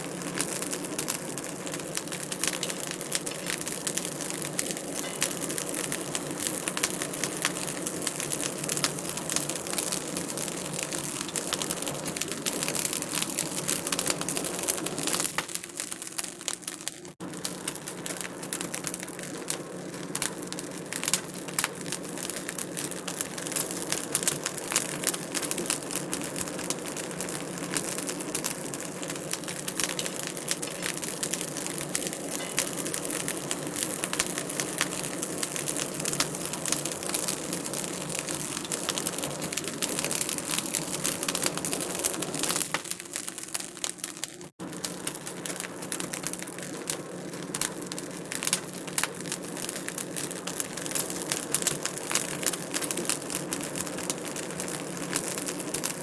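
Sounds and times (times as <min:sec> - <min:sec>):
fire pops and snaps: 0:00.0 - 0:56.0
wood fire crackling: 0:00.0 - 0:56.0.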